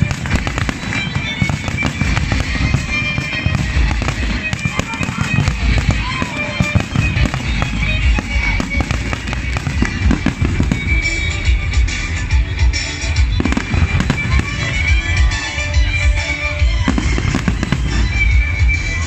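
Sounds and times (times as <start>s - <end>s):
fireworks booming and cracking: 0.0s - 19.0s
music playing: 0.0s - 19.0s.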